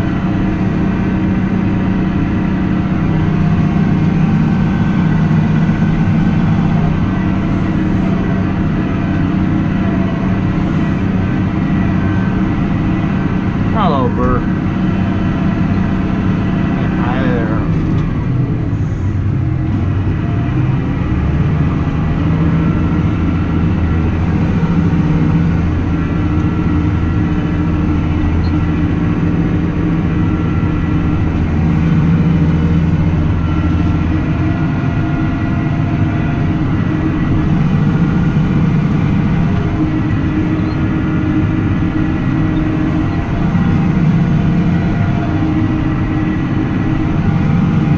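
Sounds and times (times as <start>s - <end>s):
tractor engine droning: 0.0s - 47.9s.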